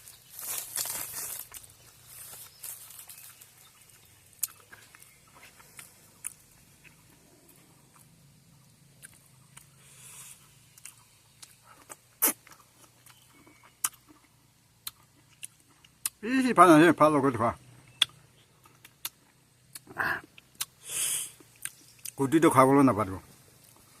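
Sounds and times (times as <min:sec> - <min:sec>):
person chewing and eating: 0:00.0 - 0:16.2, 0:18.0 - 0:22.2.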